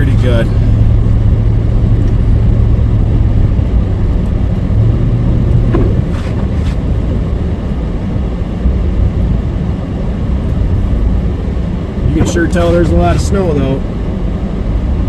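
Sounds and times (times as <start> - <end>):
engine and road rumble in cabin: 0.0 - 15.0.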